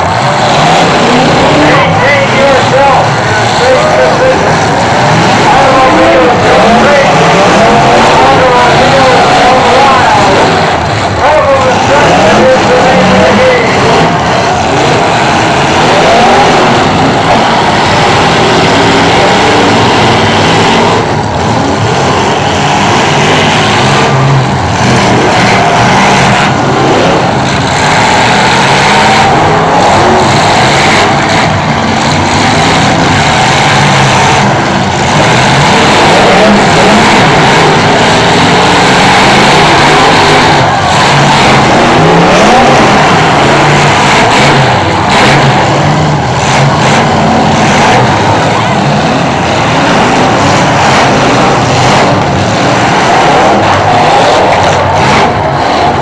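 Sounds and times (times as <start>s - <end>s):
many car engines revving: 0.0s - 56.0s.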